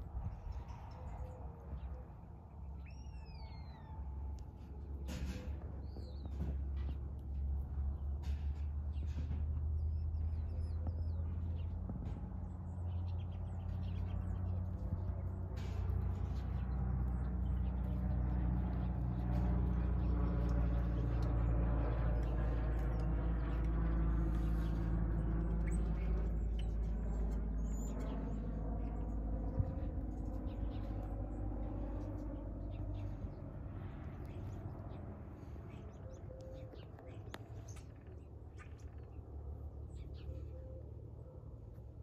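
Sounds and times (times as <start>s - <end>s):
low rumble: 0.0s - 40.3s.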